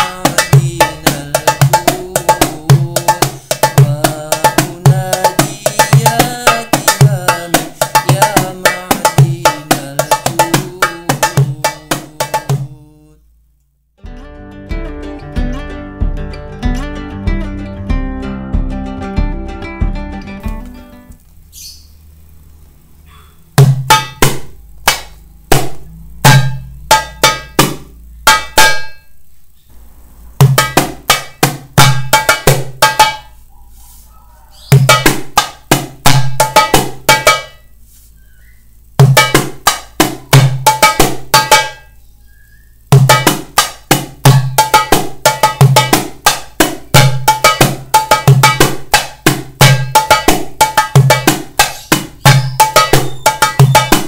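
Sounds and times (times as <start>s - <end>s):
goblet drum played by hand: 0.0s - 13.0s, 14.0s - 20.8s, 23.6s - 29.0s, 30.4s - 33.4s, 34.7s - 37.6s, 39.0s - 41.9s, 42.9s - 54.0s.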